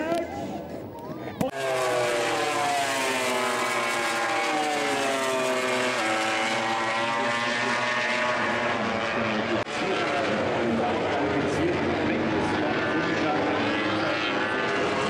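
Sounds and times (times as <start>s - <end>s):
racing motorcycle engines revving: 1.4s - 15.0s.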